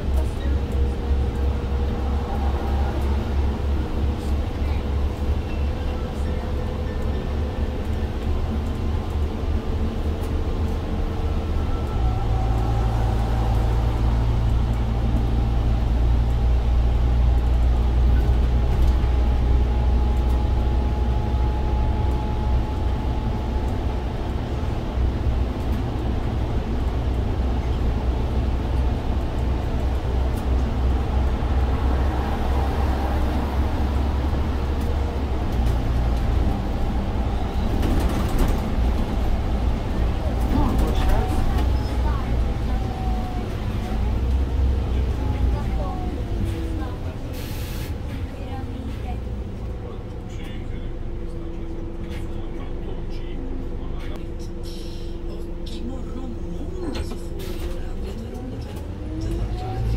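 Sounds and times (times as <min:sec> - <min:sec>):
bus engine drone: 0:00.0 - 0:59.9
road and tyre noise: 0:00.0 - 0:59.9.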